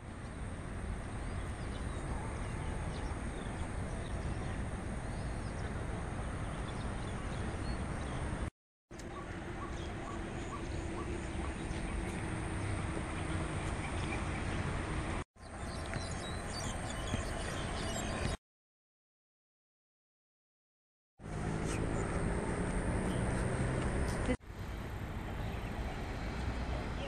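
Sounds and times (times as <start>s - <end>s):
outdoor background noise: 0.0s - 18.4s, 21.2s - 27.0s.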